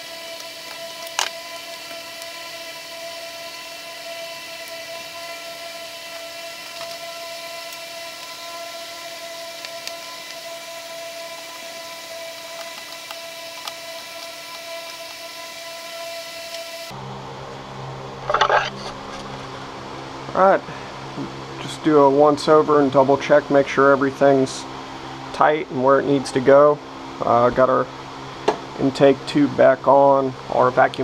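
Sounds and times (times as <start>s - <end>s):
motor-like whine: 0.0s - 31.0s.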